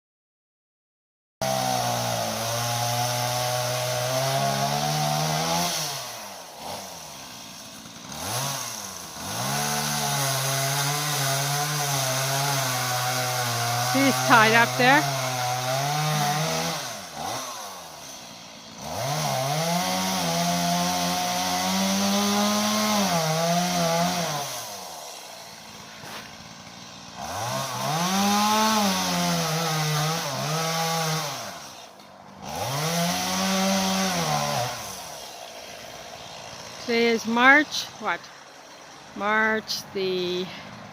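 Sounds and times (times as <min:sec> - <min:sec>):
chainsaw cutting wood: 0:01.4 - 0:40.9.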